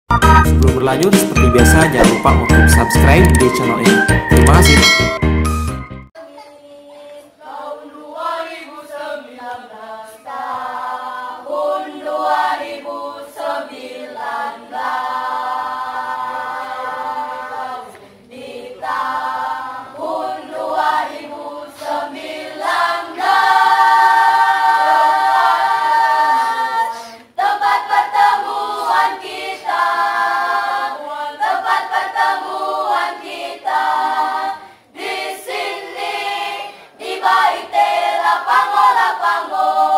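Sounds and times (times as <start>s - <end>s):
children's choir singing: 6.2s - 39.9s.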